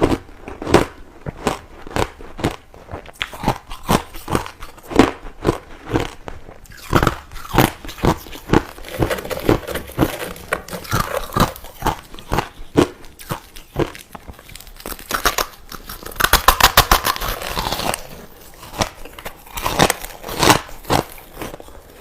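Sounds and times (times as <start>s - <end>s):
crushed ice being chewed: 0.0s - 22.0s.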